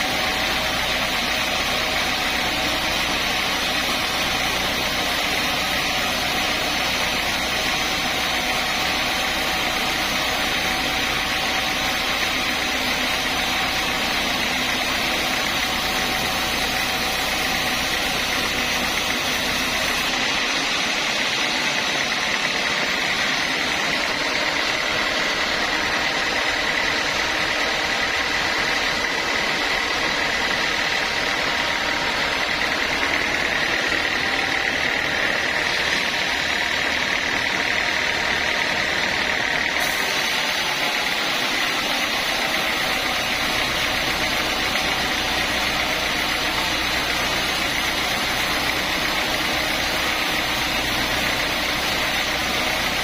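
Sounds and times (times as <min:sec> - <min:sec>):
machine noise: 0:00.0 - 0:53.0
sawmill saw whining: 0:00.0 - 0:53.0.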